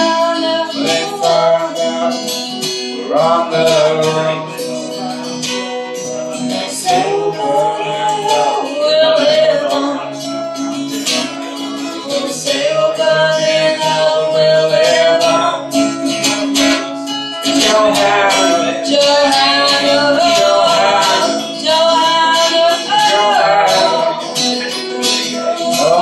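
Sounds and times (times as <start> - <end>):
acoustic guitars strummed: 0.0 - 26.0
woman and man singing: 0.0 - 26.0.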